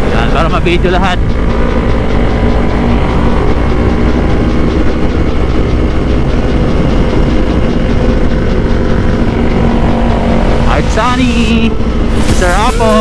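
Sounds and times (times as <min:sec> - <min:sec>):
motorcycles running loudly: 0:00.0 - 0:13.0.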